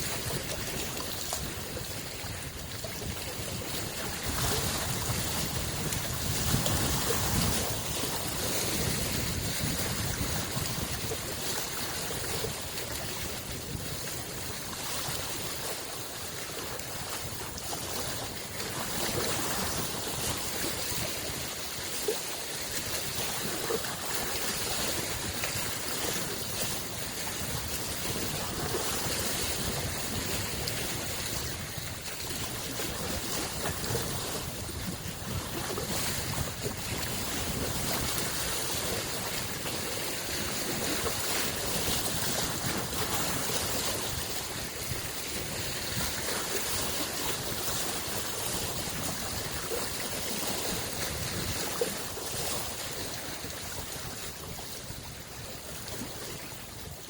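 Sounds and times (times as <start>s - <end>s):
lake waves lapping on shore: 0.0s - 57.0s.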